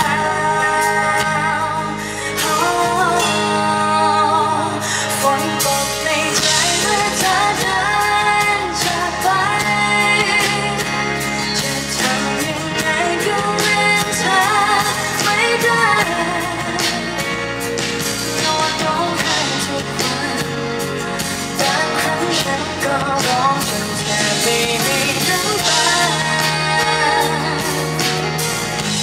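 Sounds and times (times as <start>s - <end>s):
woman singing through pa: 0.0s - 17.4s, 18.3s - 20.8s, 21.6s - 28.3s
acoustic guitar: 0.0s - 29.0s.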